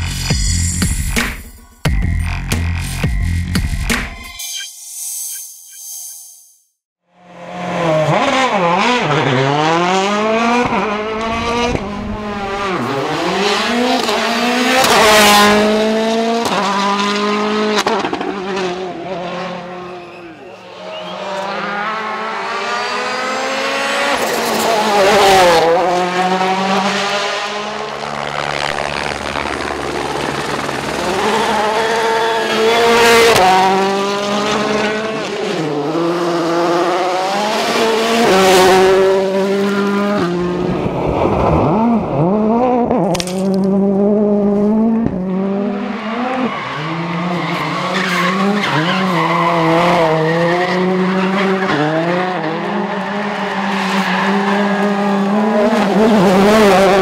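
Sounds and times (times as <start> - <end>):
rally cars revving past: 7.2 - 57.0.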